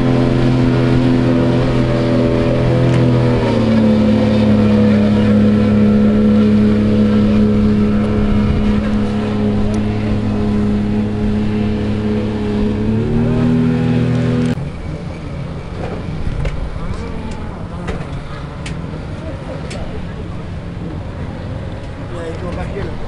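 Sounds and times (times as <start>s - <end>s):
powerboat engine droning: 0.0s - 23.0s.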